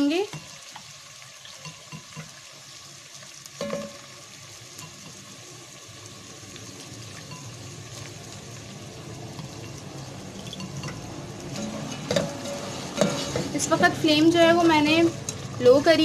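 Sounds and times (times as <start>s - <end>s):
lentils sizzling in oil: 0.0s - 16.0s.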